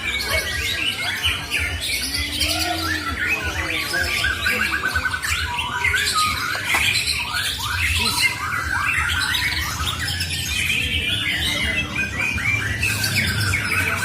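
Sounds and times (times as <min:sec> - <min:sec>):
bird singing warbled phrases: 0:00.0 - 0:14.0.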